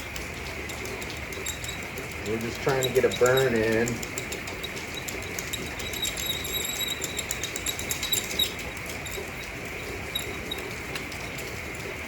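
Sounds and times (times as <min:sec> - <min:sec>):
hand drill squeaking on wood: 0:00.6 - 0:10.8.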